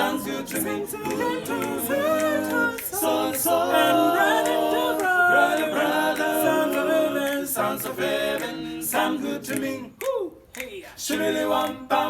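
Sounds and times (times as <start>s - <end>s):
vocal group singing in harmony: 0.0s - 12.0s.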